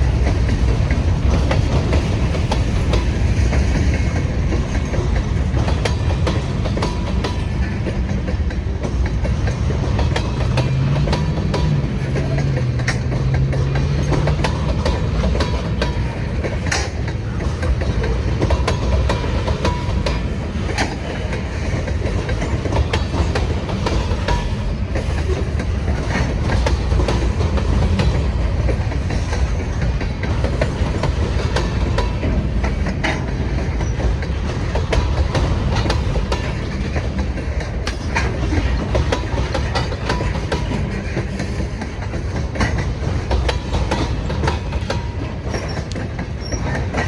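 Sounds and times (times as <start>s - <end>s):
freight cars rumbling on rails: 0.0s - 47.0s
wheels clanking over rail joints: 0.0s - 47.0s.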